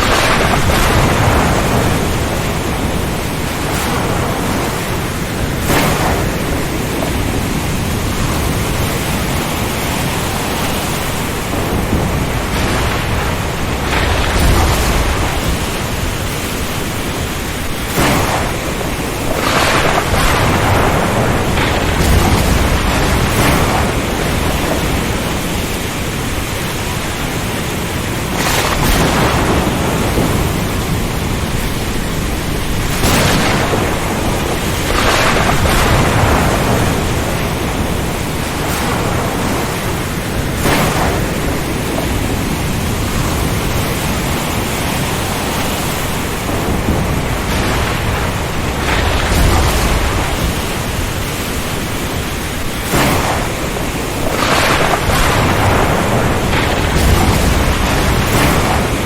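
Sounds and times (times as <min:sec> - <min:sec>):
heavy rain: 0:00.0 - 0:59.0
low thunder rumble: 0:00.0 - 0:59.0
wind noise: 0:00.0 - 0:59.0.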